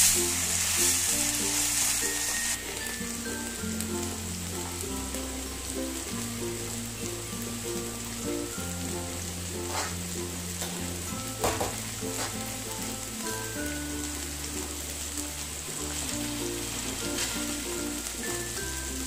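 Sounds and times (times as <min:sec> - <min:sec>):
background music with bass notes: 0:00.0 - 0:19.0
beans sizzling in hot oil: 0:00.0 - 0:19.0.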